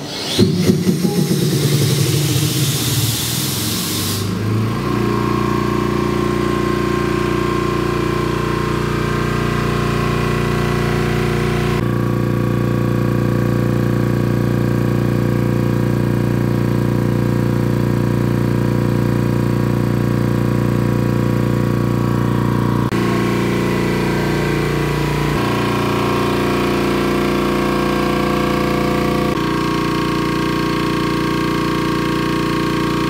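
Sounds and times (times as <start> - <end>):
air compressor running: 0.0 - 33.0.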